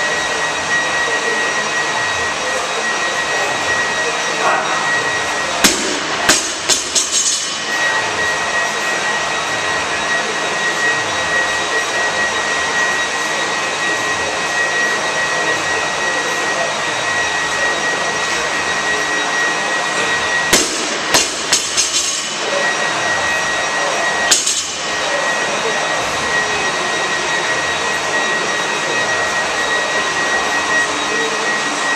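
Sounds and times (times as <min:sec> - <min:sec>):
large fan whirring: 0:00.0 - 0:31.9.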